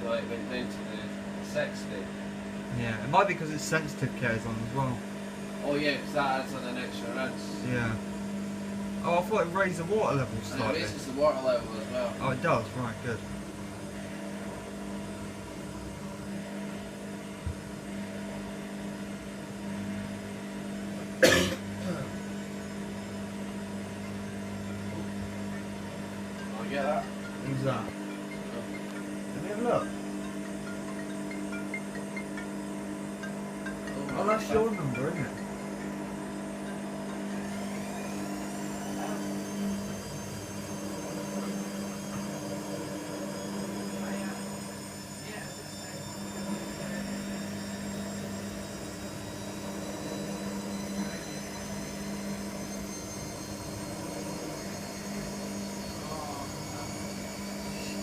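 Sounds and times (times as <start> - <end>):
washer dryer motor hum: 0.0 - 58.0
faint high whine: 5.6 - 20.2, 20.9 - 58.0.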